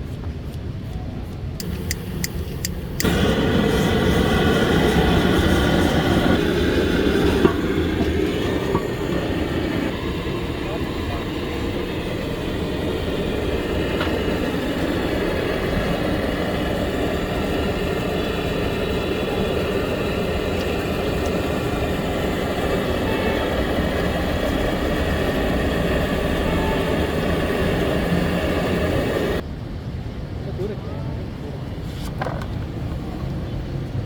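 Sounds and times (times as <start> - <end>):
engine running steadily: 1.2 - 29.4.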